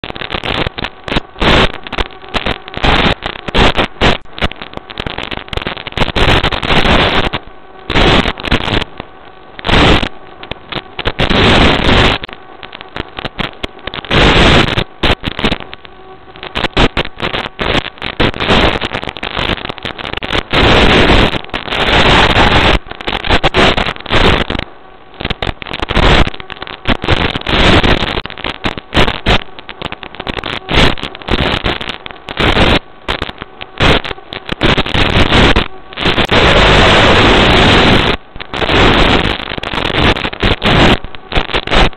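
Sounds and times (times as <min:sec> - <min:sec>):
crackling radio static: 0:00.0 - 0:41.9.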